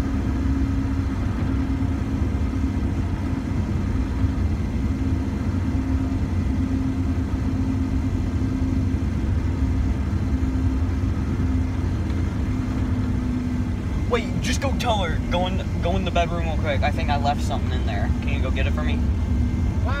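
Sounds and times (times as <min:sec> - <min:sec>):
droning hum: 0:00.0 - 0:20.0
engine and road rumble: 0:00.0 - 0:20.0.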